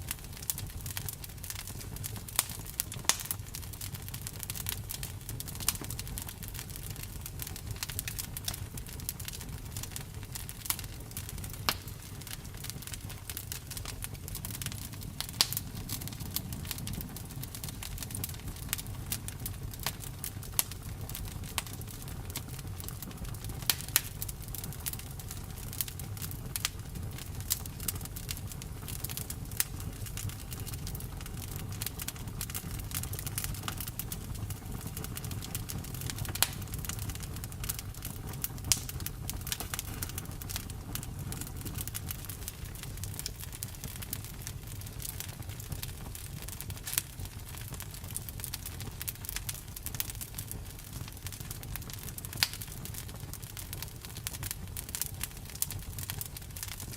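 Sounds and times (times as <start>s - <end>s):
campfire rumbling: 0.0s - 56.9s
fire crackling and popping: 0.0s - 56.9s.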